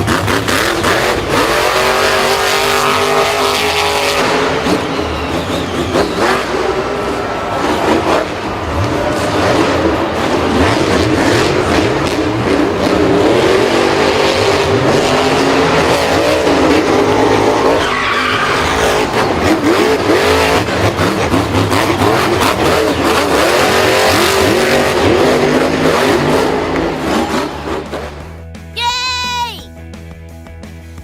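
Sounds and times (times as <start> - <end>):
racing engines revving: 0.0 - 28.5
tyres squealing and skidding: 0.2 - 29.7.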